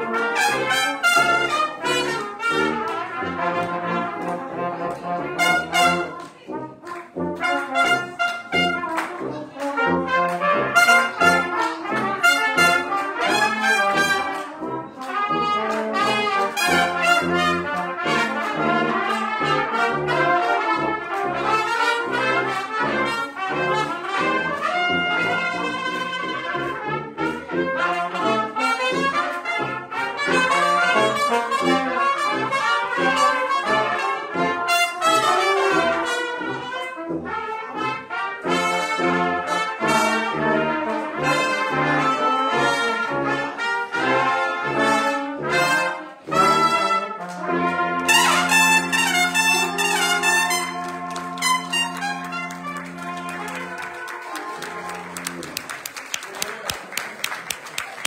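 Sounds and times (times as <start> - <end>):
tuba bass notes: 0.0 - 55.7
brass ensemble playing: 0.0 - 58.0.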